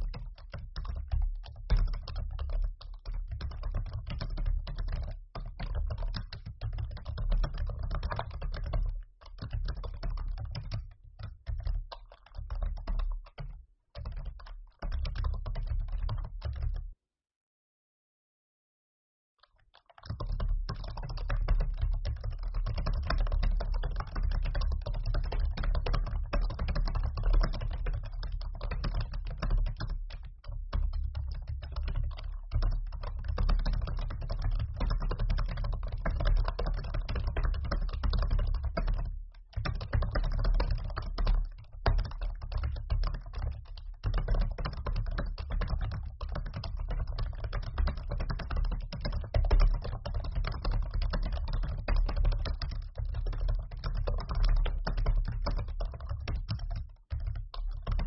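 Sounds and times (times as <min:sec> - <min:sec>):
typing on laptop keyboard: 0:00.0 - 0:16.9, 0:19.4 - 0:58.0.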